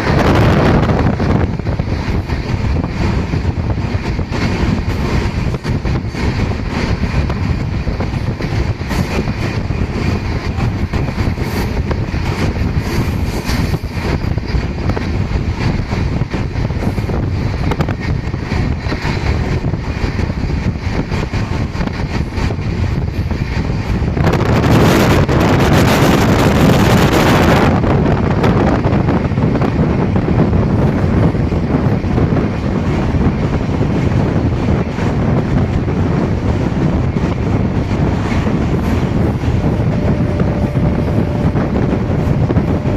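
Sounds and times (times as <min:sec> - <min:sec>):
passenger train rumbling: 0:00.0 - 0:42.9
rushing noise: 0:00.0 - 0:42.9
wind buffeting microphone: 0:00.0 - 0:42.9.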